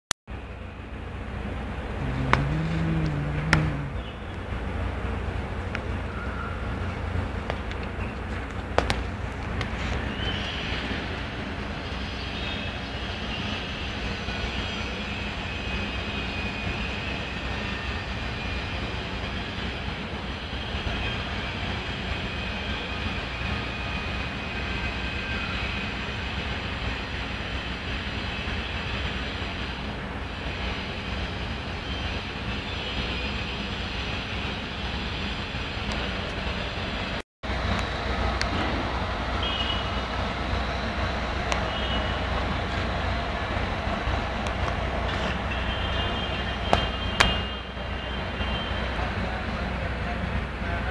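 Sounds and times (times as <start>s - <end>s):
low rumble of vehicle noise: 0.3s - 50.9s.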